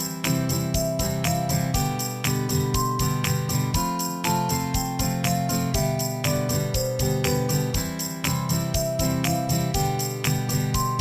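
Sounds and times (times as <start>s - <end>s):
jingling high percussion: 0.0s - 11.0s
melody over steady beat: 0.7s - 11.0s.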